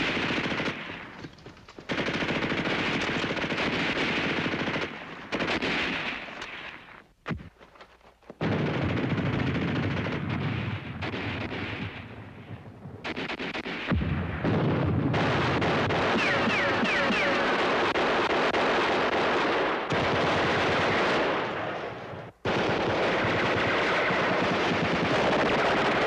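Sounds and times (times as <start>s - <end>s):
machine-gun and rifle fire: 0.0s - 1.2s, 1.8s - 6.8s, 8.4s - 12.2s, 13.0s - 21.8s, 22.4s - 26.0s.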